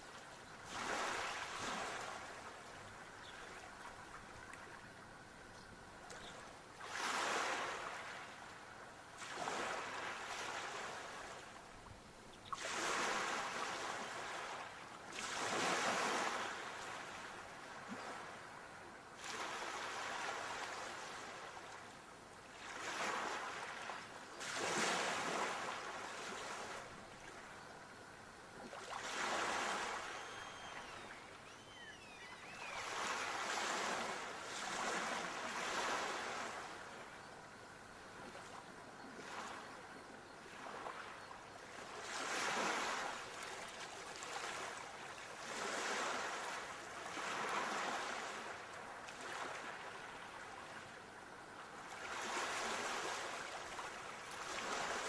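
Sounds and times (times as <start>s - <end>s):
sea waves breaking on shore: 0.0s - 4.8s, 6.8s - 8.5s, 9.2s - 11.7s, 12.4s - 21.8s, 22.5s - 27.4s, 28.6s - 37.6s, 40.5s - 51.0s, 51.6s - 55.0s.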